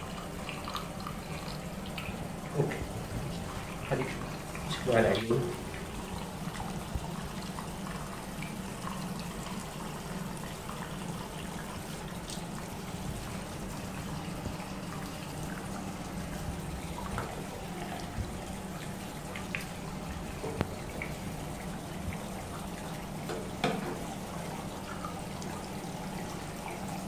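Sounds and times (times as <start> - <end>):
tap water running into sink: 0.0 - 27.0.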